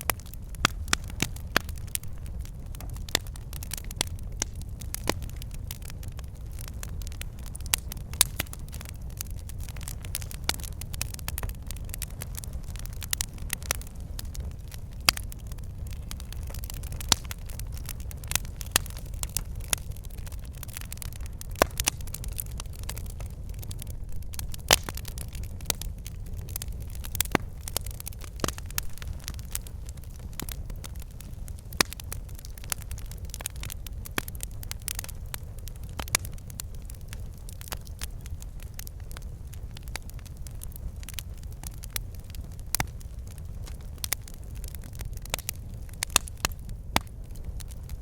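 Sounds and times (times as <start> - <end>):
log fire crackling and popping: 0.0 - 48.0
low rumble of flames: 0.0 - 48.0.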